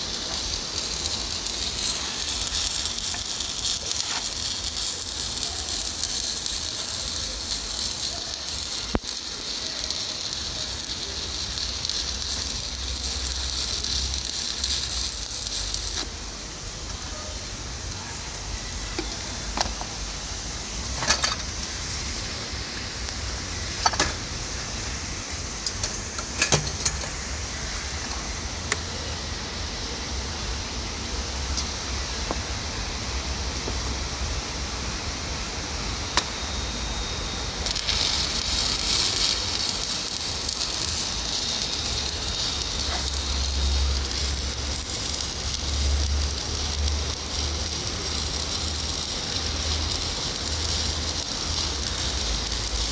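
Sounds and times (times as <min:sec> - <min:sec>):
dull hiss: 0:00.0 - 0:52.9
welding arc crackling hiss: 0:00.0 - 0:52.9.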